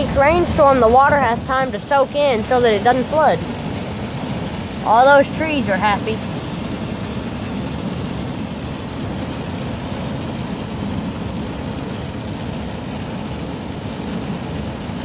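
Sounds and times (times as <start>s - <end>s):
deep rumble: 0.0s - 15.0s
hard rain in strong wind: 0.0s - 15.0s.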